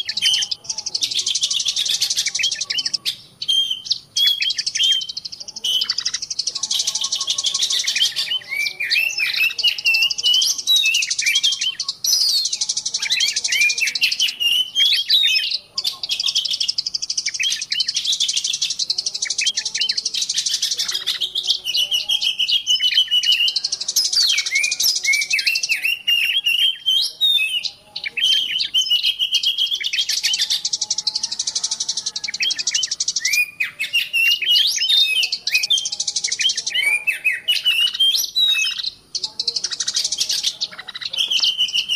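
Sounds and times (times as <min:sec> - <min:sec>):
small birds chirping in chorus: 0:00.0 - 0:41.9.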